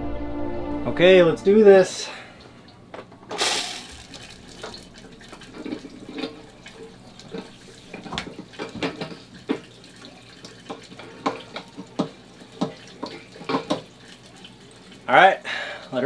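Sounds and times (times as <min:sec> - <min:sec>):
water running into toilet bowl: 0:02.1 - 0:16.0.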